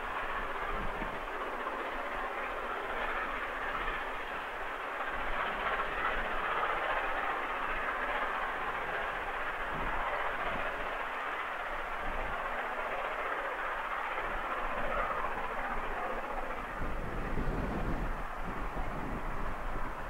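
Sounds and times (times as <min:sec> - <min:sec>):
distant train rumbling along rails: 0:00.0 - 0:20.0.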